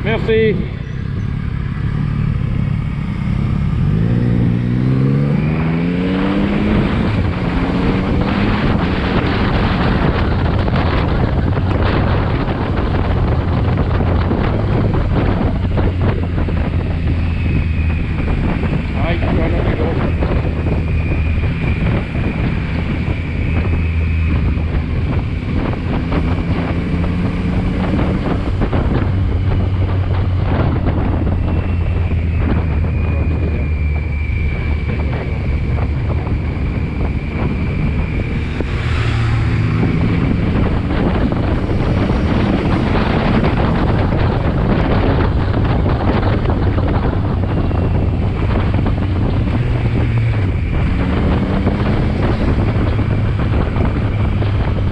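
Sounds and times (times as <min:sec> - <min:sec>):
motorcycle engine: 0:00.0 - 0:54.9
wind noise on microphone: 0:00.0 - 0:54.9.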